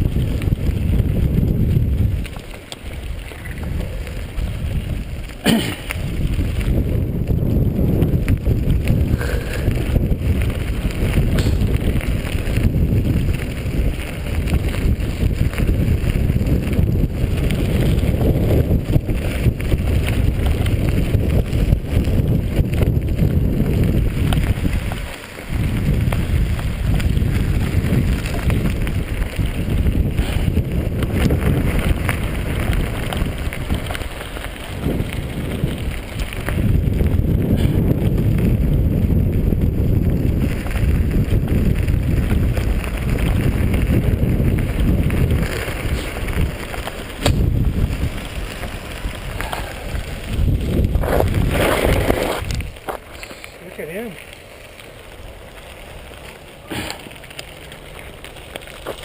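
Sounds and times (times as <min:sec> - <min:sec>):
tyre and trail noise: 0:00.0 - 0:59.0
wind buffeting microphone: 0:00.0 - 0:59.0.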